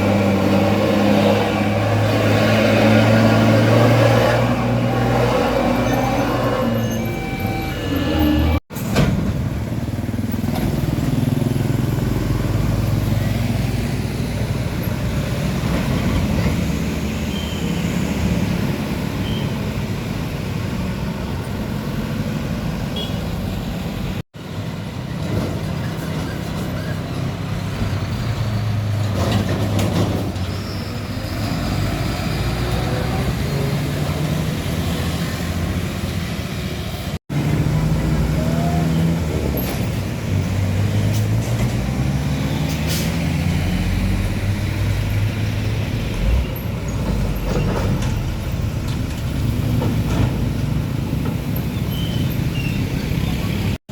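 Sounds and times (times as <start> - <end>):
heavy trucks passing: 0.0 - 53.9
traffic noise: 0.0 - 53.9.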